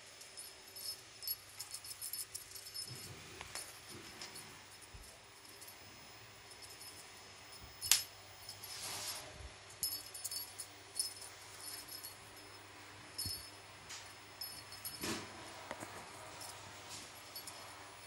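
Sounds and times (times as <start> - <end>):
cat toy jingling and clicking: 0.0 - 8.9, 9.8 - 15.4, 16.0 - 18.0.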